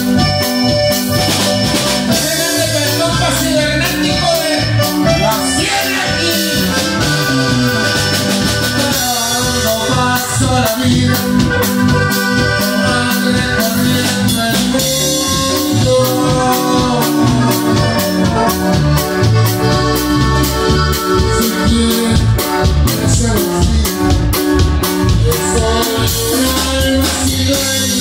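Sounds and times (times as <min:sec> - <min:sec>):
accordion melody: 0:00.0 - 0:28.0
drum kit: 0:00.0 - 0:28.0
electric bass: 0:00.0 - 0:28.0.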